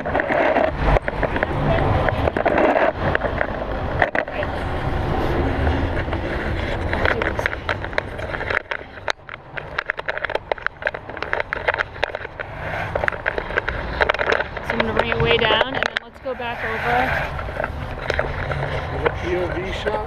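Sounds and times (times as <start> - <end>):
snow crunching and ticking: 0.0 - 20.0.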